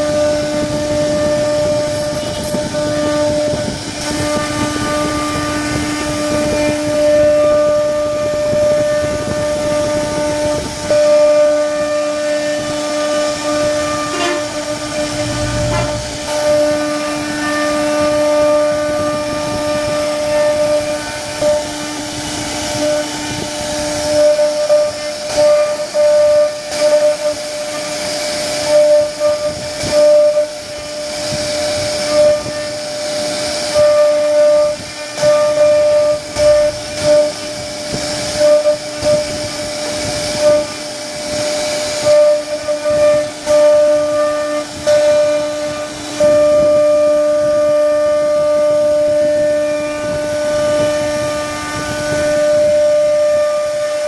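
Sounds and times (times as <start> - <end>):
router bit cutting wood hiss: 0.0 - 54.0
router spindle high whine: 0.0 - 54.0.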